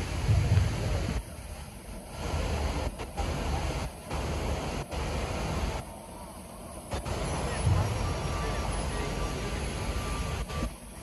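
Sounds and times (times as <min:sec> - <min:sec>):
rushing outdoor noise with rumble: 0:00.0 - 0:11.0.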